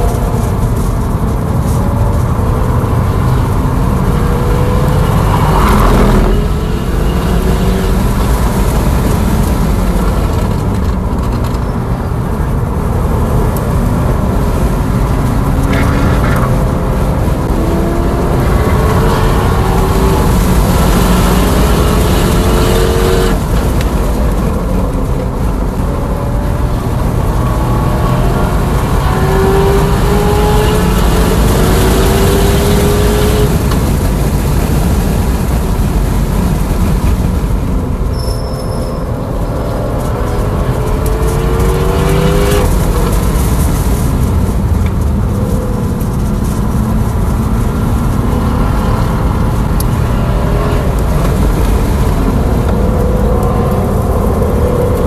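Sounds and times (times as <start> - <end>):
wind and tyre roar: 0.0 - 55.0.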